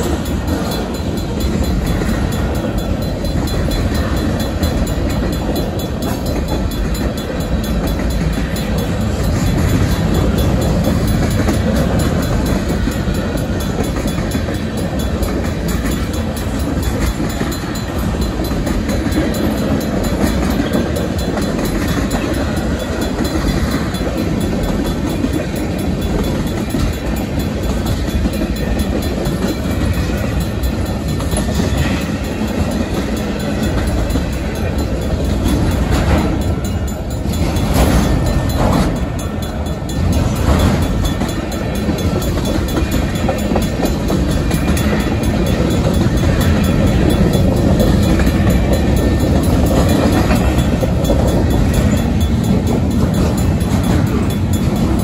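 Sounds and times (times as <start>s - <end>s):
faint crossing bell ringing: 0.0s - 55.0s
freight train wheels rumbling: 0.0s - 55.0s
wheel clatter over rail joints: 0.0s - 55.0s.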